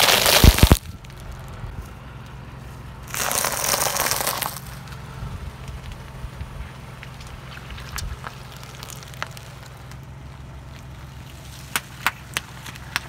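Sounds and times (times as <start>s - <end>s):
peanut shells crunching under tyre: 0.0s - 2.4s, 3.0s - 13.0s.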